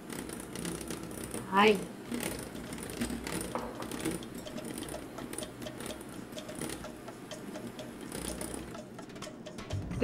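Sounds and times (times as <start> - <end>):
beaters ticking on glass bowl: 0.0 - 10.0.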